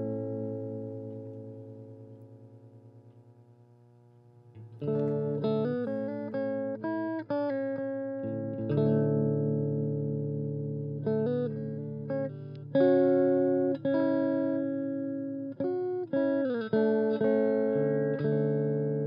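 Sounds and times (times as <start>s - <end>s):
plucked guitar chords: 0.0s - 3.3s, 4.5s - 19.0s.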